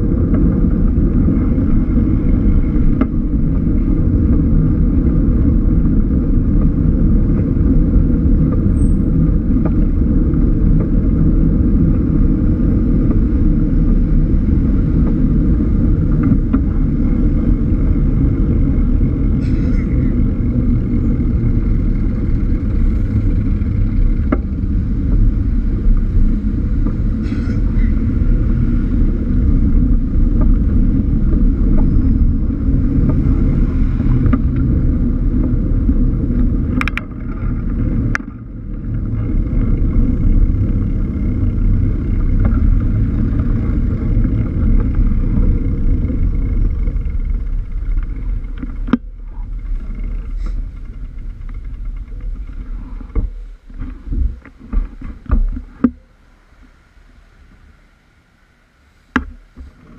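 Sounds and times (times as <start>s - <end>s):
wind buffeting: 0.0s - 55.8s
road and traffic noise: 0.0s - 59.9s.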